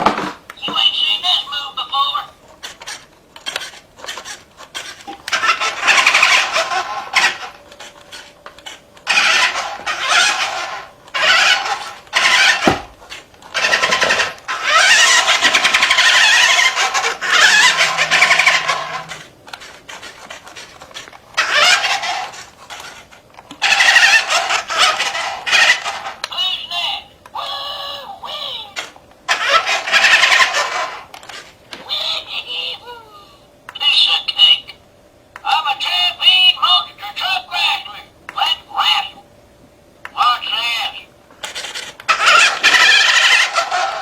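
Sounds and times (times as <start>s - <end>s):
toy truck motor whirring: 0.8s - 33.1s, 40.5s - 44.0s.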